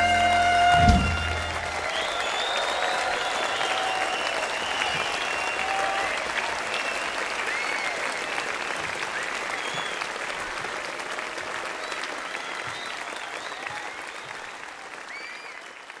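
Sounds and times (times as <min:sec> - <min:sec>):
audience applauding: 0:00.0 - 0:16.0
cheering voices: 0:00.0 - 0:16.0
whistles: 0:00.7 - 0:10.4, 0:11.7 - 0:15.9.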